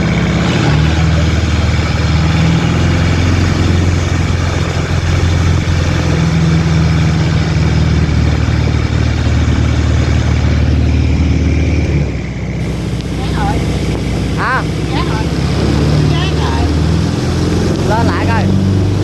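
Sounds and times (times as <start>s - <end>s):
speedboat engine droning: 0.0s - 19.0s.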